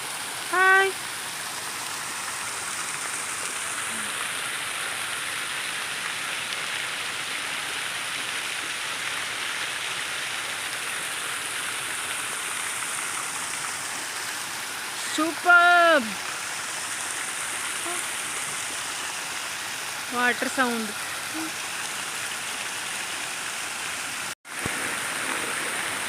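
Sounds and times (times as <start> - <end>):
water fountain splashing: 0.0 - 26.0.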